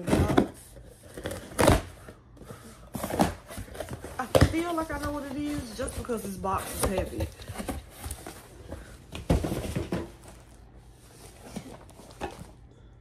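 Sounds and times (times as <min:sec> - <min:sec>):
cardboard scraping and rustling: 0:00.0 - 0:12.6.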